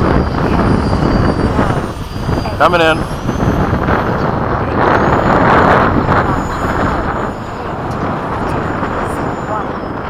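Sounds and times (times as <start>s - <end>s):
high fan whine: 0.0s - 10.0s
jet rushing sound: 0.0s - 10.0s
wind buffeting microphone: 0.0s - 10.0s.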